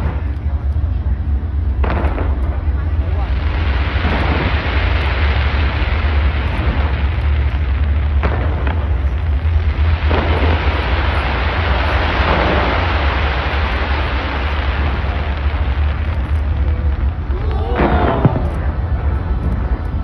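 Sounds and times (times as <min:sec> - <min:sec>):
fireworks barrage: 0:00.0 - 0:20.0
sharp firework cracks: 0:01.7 - 0:20.0.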